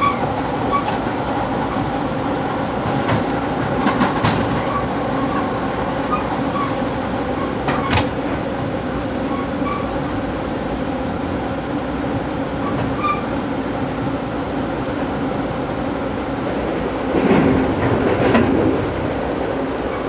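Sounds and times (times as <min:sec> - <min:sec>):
train rumbling inside coach: 0:00.0 - 0:20.0.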